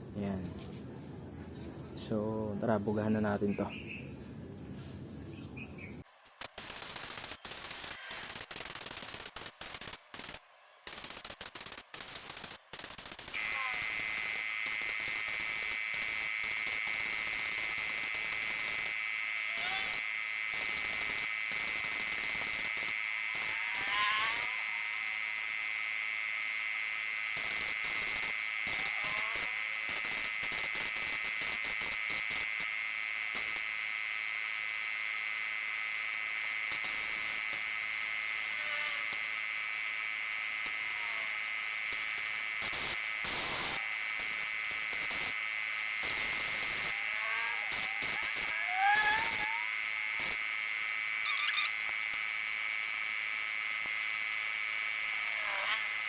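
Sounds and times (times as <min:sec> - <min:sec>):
electric paint sprayer whining: 0:06.5 - 0:56.0.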